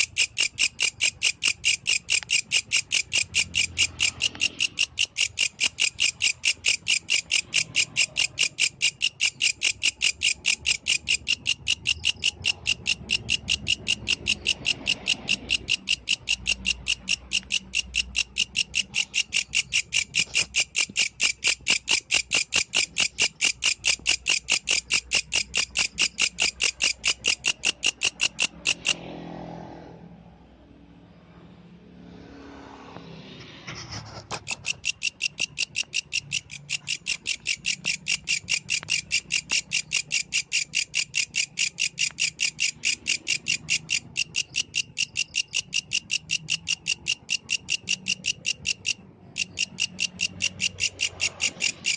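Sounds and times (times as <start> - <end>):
grasshopper stridulating: 0.0 - 29.2, 33.8 - 51.9.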